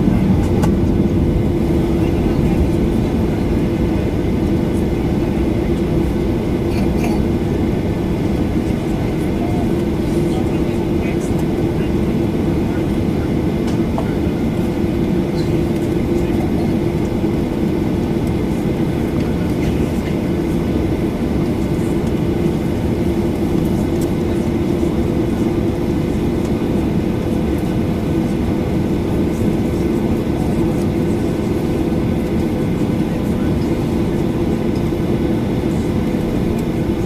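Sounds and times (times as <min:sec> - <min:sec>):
jet engines idling in cabin: 0:00.0 - 0:37.0.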